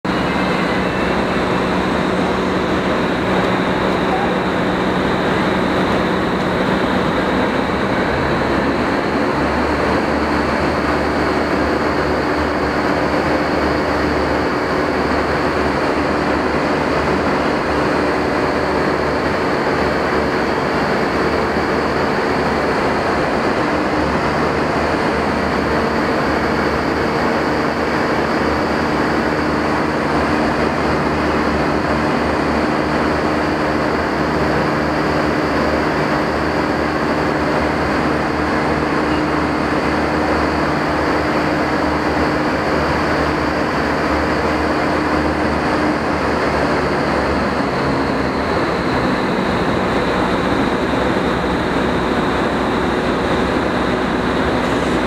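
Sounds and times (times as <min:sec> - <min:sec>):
big fans droning: 0:00.0 - 0:55.0
rush of high-speed air: 0:00.0 - 0:55.0.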